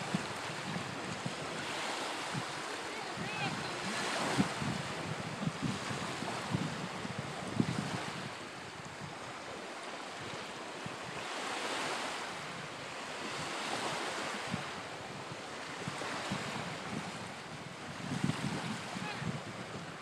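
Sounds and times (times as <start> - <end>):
small waves washing on shore: 0.0 - 20.0
wind buffeting microphone: 0.0 - 20.0.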